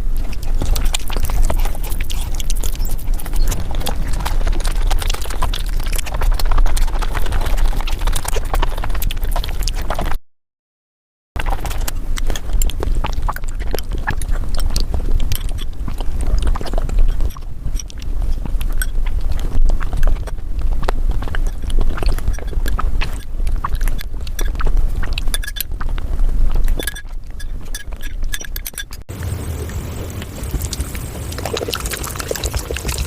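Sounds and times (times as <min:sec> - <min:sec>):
chewing and mouth clicks: 0:00.0 - 0:10.2, 0:11.4 - 0:33.0.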